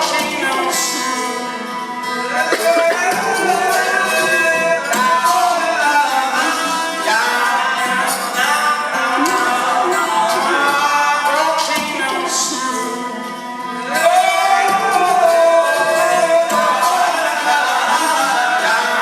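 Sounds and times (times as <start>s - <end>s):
person singing: 0.0s - 19.0s
instrumental accompaniment: 1.0s - 17.4s.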